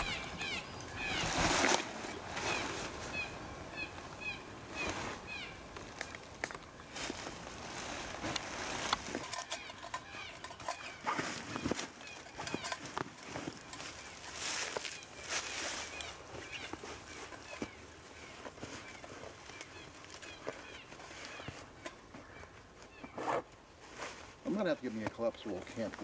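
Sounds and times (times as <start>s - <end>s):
songbird chirping: 0.0s - 23.7s
camping gear rustling and knocking: 0.0s - 26.0s.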